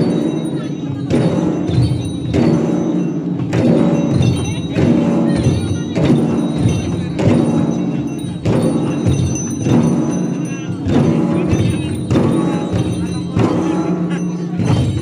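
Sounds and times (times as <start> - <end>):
group of barrel drums beaten: 0.0 - 15.0.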